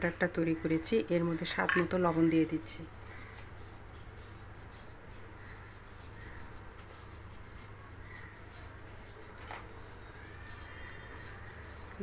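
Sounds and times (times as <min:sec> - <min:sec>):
spoon scraping batter in bowl: 0:00.6 - 0:12.0.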